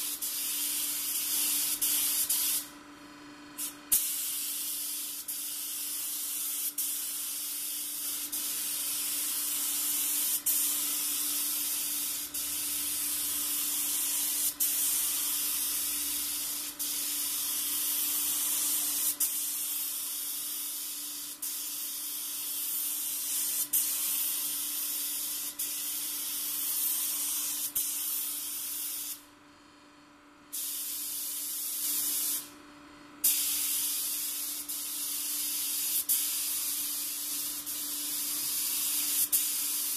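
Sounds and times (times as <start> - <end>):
spray gun hissing: 0.0 - 2.7, 3.6 - 29.2, 33.2 - 39.9.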